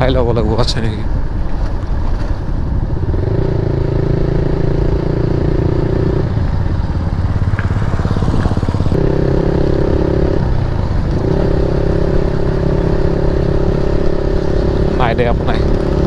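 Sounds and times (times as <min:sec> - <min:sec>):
road and wind noise: 0:00.0 - 0:16.0
motorcycle engine exhaust: 0:01.1 - 0:16.0.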